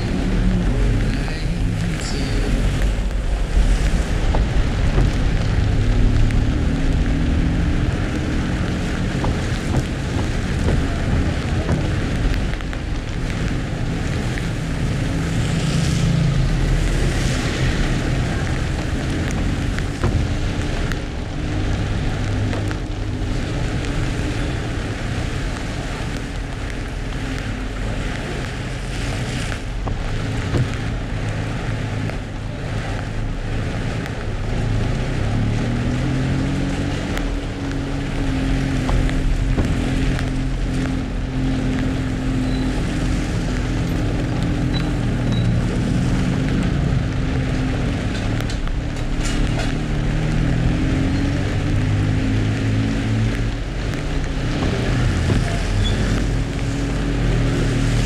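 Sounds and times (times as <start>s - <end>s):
car engine revving while driving: 0.0s - 58.0s
rain hiss: 0.0s - 58.0s
tyres on a wet road: 0.0s - 58.0s.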